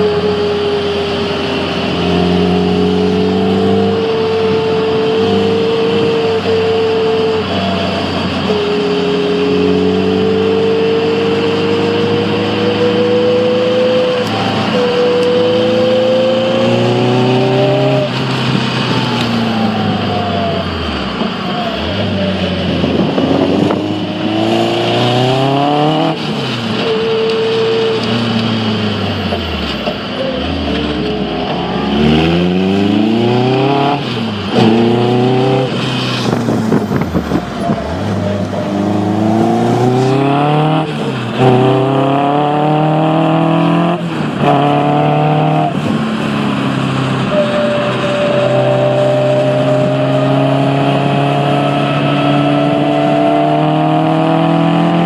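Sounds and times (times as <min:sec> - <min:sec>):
car engine revving hard: 0:00.0 - 0:55.0
wind and road noise: 0:00.0 - 0:55.0.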